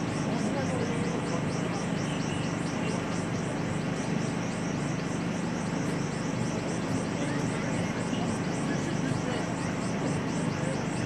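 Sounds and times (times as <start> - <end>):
crowd background noise: 0.0 - 11.0
fast high-pitched chirping: 0.0 - 11.0.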